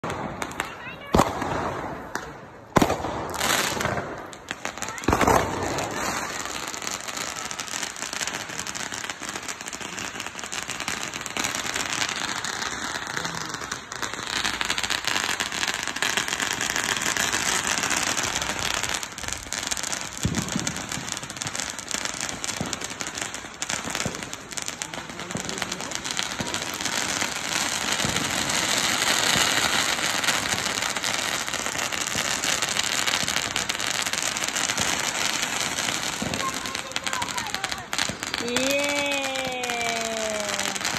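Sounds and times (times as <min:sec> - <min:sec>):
firework bangs: 0:00.0 - 0:40.9
fireworks crackling: 0:00.0 - 0:40.9.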